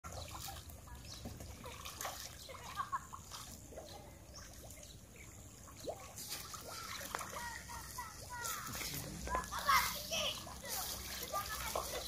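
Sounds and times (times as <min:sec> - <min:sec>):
fish splashing in pond: 0:00.1 - 0:12.0.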